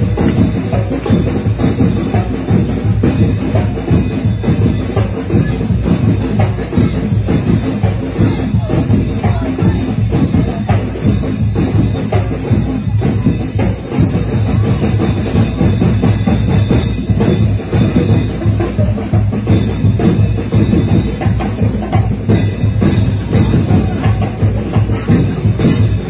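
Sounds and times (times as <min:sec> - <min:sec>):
loud continuous drum beat: 0:00.0 - 0:26.0.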